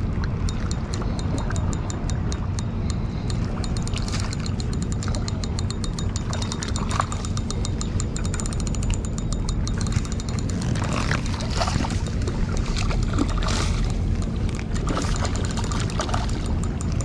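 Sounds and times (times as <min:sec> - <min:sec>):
steady low rumble: 0:00.0 - 0:17.0
fast even ticking: 0:00.3 - 0:17.0.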